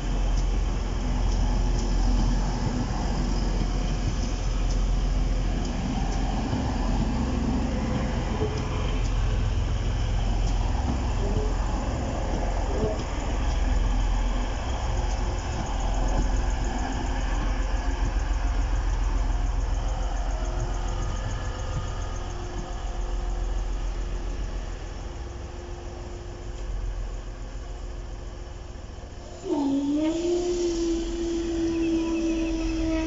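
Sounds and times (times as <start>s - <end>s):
diesel train engines rumbling: 0.0s - 33.0s.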